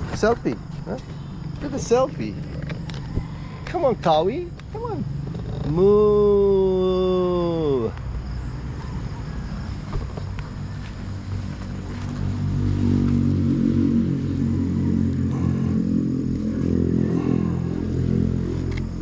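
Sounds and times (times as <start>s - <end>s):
motorcycle engine running: 0.0s - 6.6s, 9.4s - 19.0s.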